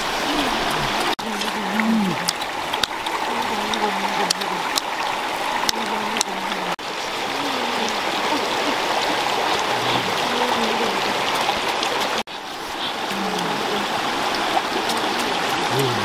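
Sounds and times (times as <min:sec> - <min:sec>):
stream rushing over stones: 0:00.0 - 0:16.0.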